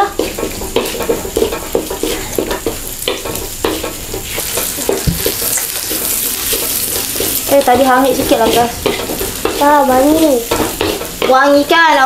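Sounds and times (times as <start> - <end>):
food sizzling in hot oil: 0.0 - 12.0
wooden spatula scraping a wok: 0.0 - 12.0.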